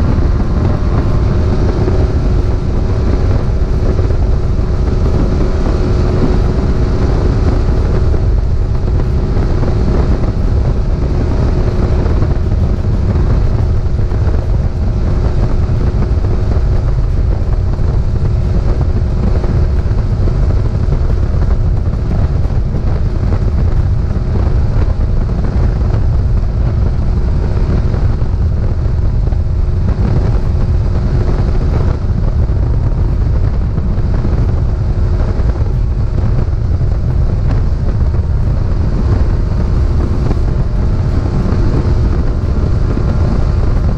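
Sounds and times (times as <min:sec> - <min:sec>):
outboard motor running: 0:00.0 - 0:43.9
wind buffeting microphone: 0:00.0 - 0:43.9.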